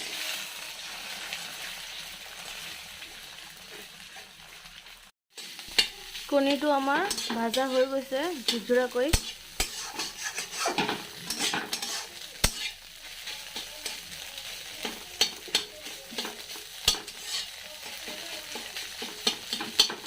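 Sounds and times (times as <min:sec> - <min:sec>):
eggs sizzling in hot oil: 0:00.0 - 0:20.0
spatula scraping a pan: 0:00.0 - 0:20.0.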